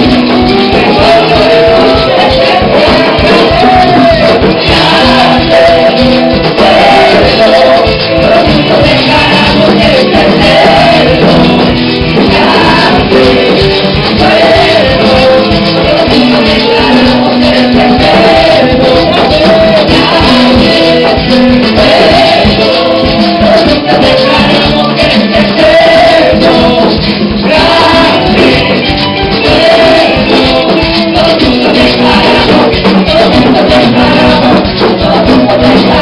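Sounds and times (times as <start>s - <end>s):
congas: 0.0s - 36.0s
electric guitar: 0.0s - 36.0s
keyboard: 0.0s - 36.0s
women singing into microphones: 0.0s - 36.0s.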